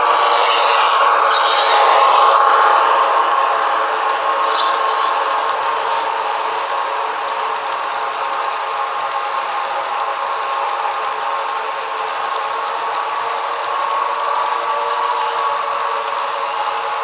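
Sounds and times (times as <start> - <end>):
model train motor hum and whir: 0.0 - 17.0
onboard locomotive sound: 0.0 - 17.0.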